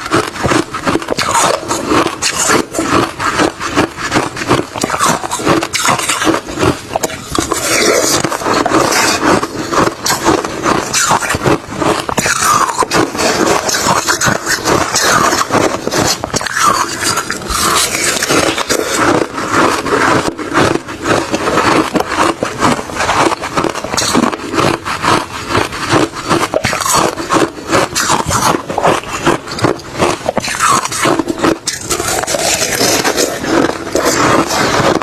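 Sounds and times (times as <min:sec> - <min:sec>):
person chewing crushed ice: 0:00.0 - 0:35.0.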